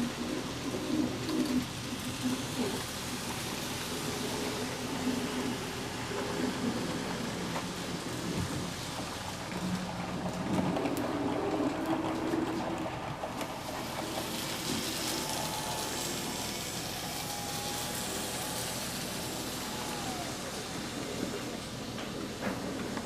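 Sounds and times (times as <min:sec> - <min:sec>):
faint motor whine: 0:00.0 - 0:23.0
model train wheels hissing on track: 0:00.0 - 0:23.0.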